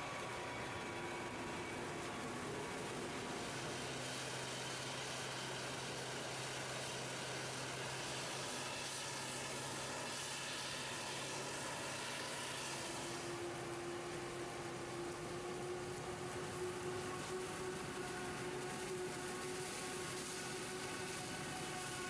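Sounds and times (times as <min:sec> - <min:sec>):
harvester engine and chopper drone: 0:00.0 - 0:22.0.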